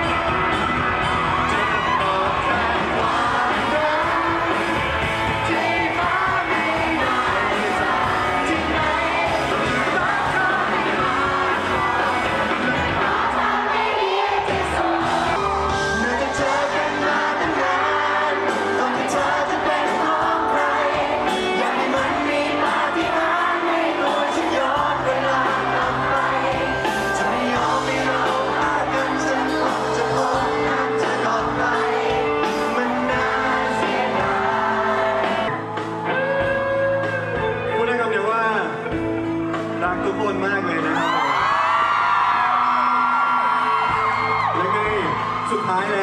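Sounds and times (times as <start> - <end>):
crowd shouting and whooping: 0.0 - 37.8, 40.6 - 46.0
live pop band with singing: 0.0 - 46.0.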